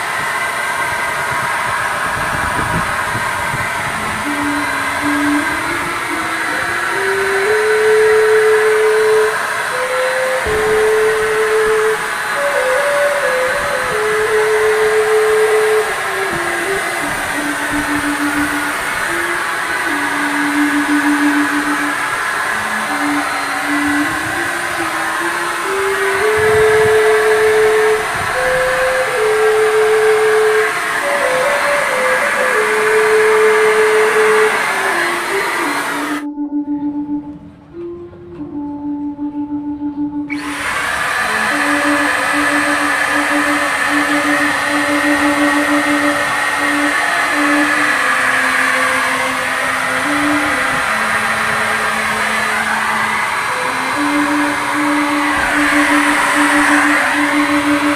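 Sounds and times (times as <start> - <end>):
paint spray gun motor whine: 0.0 - 57.9
simple melody: 0.0 - 57.9.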